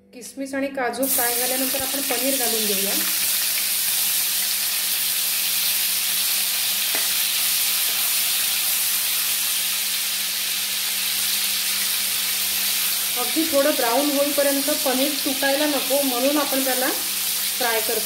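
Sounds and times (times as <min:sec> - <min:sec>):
cheese cubes sizzling in oil: 0:01.0 - 0:18.0.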